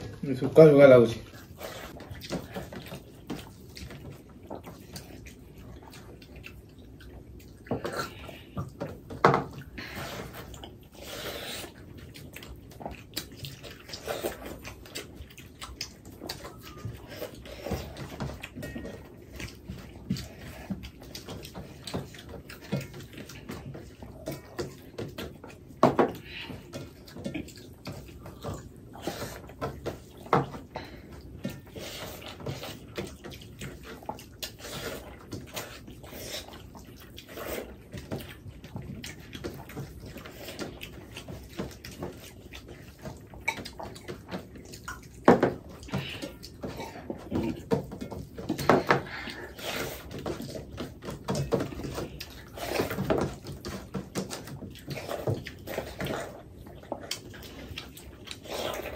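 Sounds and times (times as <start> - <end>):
chewing and lip-smacking: 0.0 - 58.9
wet squelching of food: 0.0 - 58.9.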